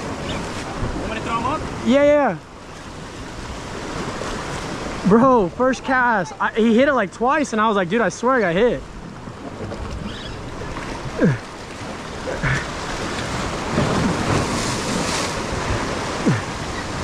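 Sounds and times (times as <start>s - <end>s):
surf washing against rocks: 0.0s - 17.0s.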